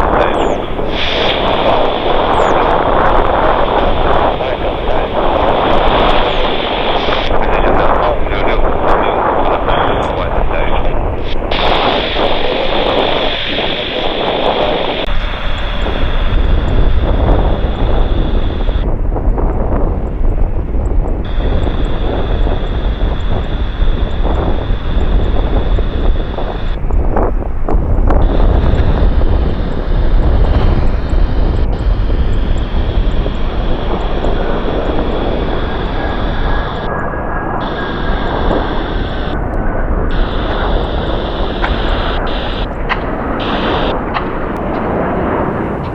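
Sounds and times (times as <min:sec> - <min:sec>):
jet engines rumbling and whining: 0:00.0 - 0:45.9.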